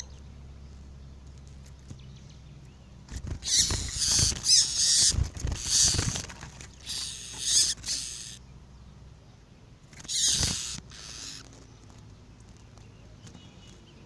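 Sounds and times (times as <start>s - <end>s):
bird twittering song: 0.0s - 14.0s.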